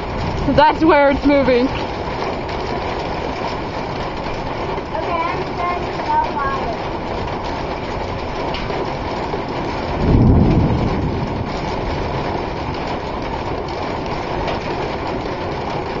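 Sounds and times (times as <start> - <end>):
low thunder rumble: 0.0 - 16.0
rain: 0.0 - 16.0
wind: 0.0 - 16.0.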